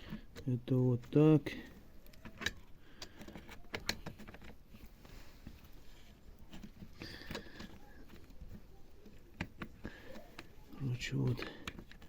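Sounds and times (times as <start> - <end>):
small parts clicking and tapping: 0.0 - 12.0.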